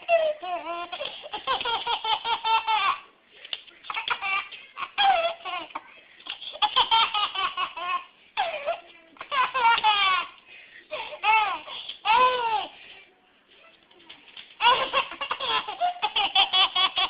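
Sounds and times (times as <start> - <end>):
baby giggling: 0.0 - 3.1, 3.8 - 12.8, 14.6 - 17.0.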